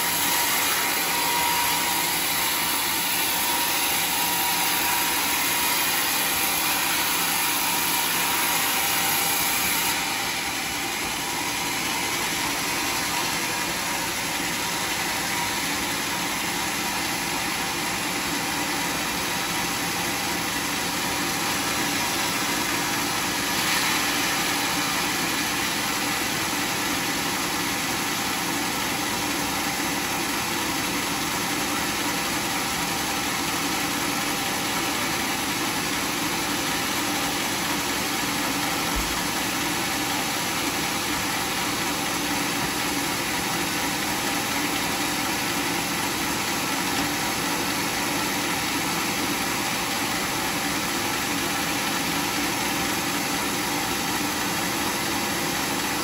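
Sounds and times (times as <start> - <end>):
sawmill machinery drone and hiss: 0.0 - 56.0.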